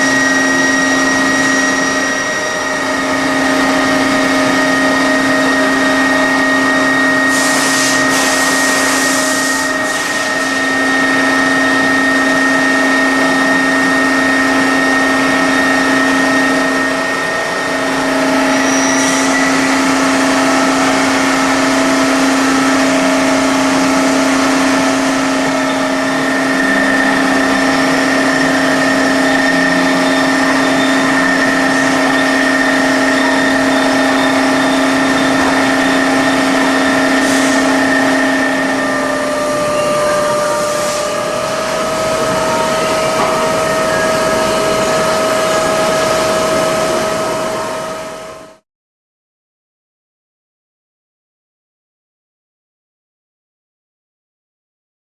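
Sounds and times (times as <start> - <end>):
drilling machine humming: 0.0 - 48.6.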